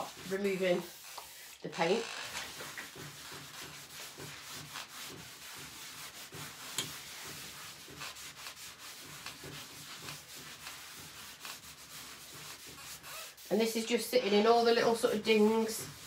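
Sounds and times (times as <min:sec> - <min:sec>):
damp cloth rubbing wood: 0:00.0 - 0:16.0.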